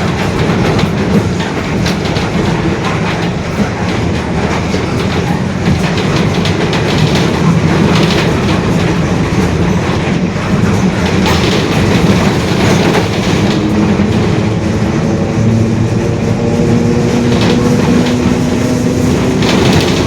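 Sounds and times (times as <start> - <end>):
body and interior rattles: 0.0 - 20.0
diesel bus engine under load: 0.0 - 20.0.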